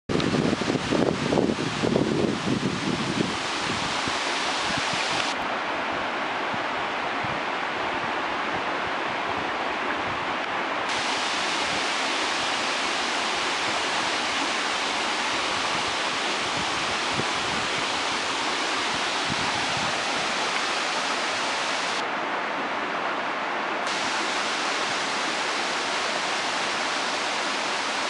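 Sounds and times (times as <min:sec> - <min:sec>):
creek water rushing over bedrock: 0:00.1 - 0:09.1, 0:09.7 - 0:28.0.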